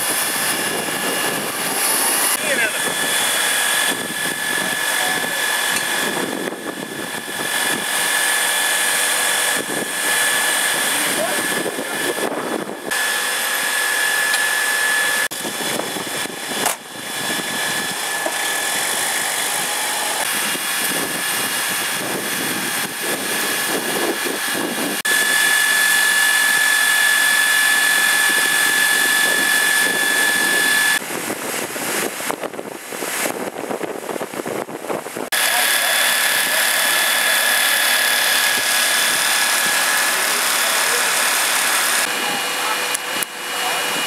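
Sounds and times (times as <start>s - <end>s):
engine-driven pump whining: 0.0s - 44.0s.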